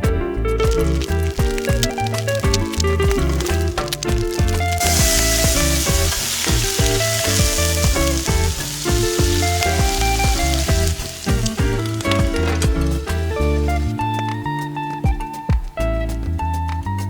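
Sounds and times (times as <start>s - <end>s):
background music: 0.0s - 17.0s
food sizzling in a pan: 0.6s - 14.4s.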